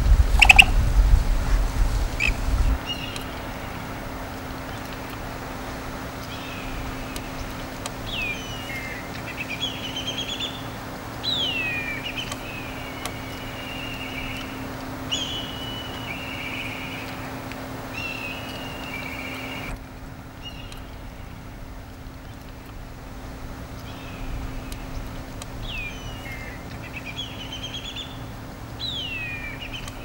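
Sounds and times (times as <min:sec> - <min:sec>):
steady low hum: 0:00.0 - 0:30.0
bird calling with rolling trills: 0:00.3 - 0:00.8, 0:02.2 - 0:30.0.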